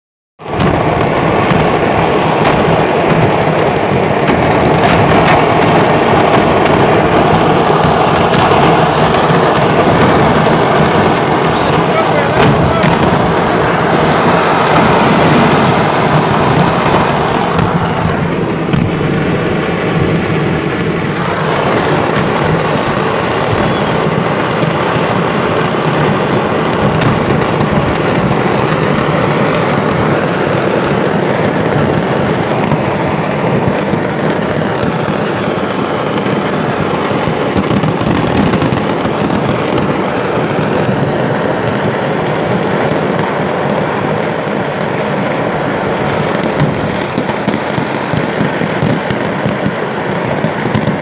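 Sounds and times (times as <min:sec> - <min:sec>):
firecrackers crackling and banging: 0:00.4 - 0:51.0.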